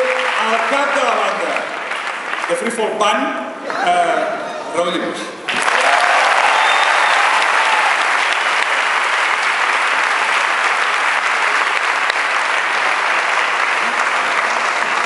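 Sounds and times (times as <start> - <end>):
audience applause: 0.0 - 2.8, 5.5 - 15.0.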